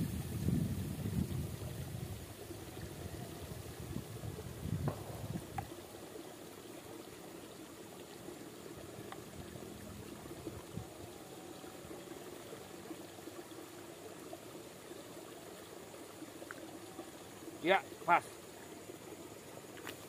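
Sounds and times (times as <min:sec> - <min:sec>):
liquid trickling into tank: 0:00.1 - 0:19.8.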